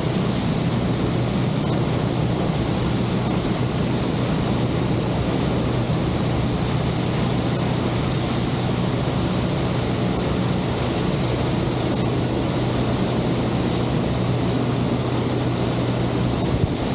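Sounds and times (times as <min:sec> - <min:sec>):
outboard motor running: 0:00.0 - 0:16.9
water rushing along hull: 0:00.0 - 0:16.9.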